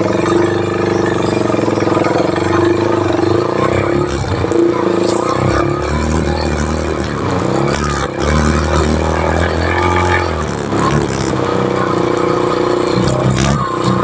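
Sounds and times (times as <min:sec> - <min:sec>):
motorcycle engine running: 0:00.0 - 0:14.0
road and tyre noise: 0:00.0 - 0:14.0.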